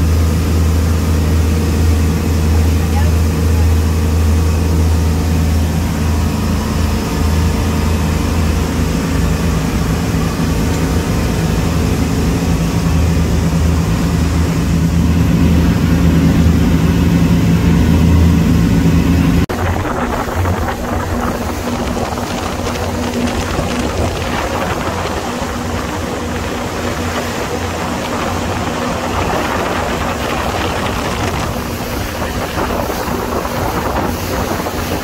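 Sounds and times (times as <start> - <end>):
motorboat engine droning: 0.0 - 35.0
wind and water rushing: 0.0 - 35.0.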